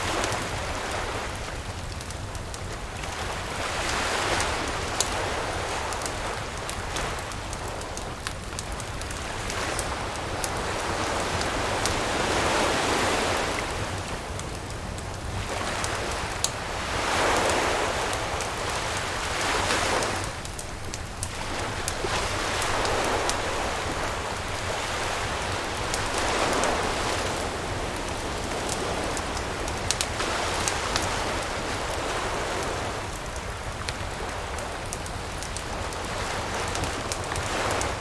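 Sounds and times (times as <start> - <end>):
campfire crackling and popping: 0.0 - 38.0
waves washing ashore: 0.0 - 38.0.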